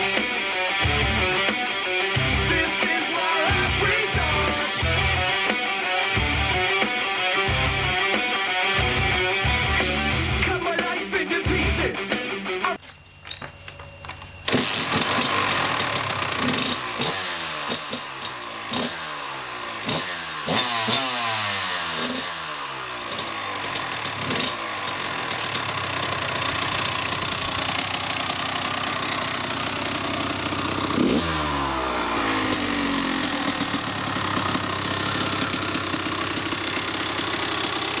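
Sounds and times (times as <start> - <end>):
two-stroke engine revving: 0.0 - 10.5, 14.5 - 38.0.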